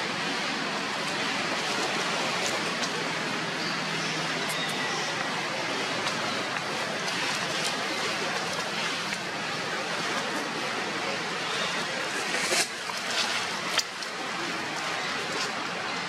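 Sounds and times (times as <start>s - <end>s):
rushing background noise: 0.0s - 16.0s.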